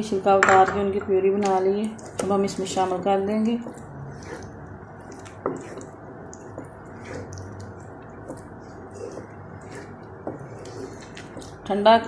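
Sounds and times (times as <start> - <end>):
spatula squelching and scraping: 1.2 - 12.0.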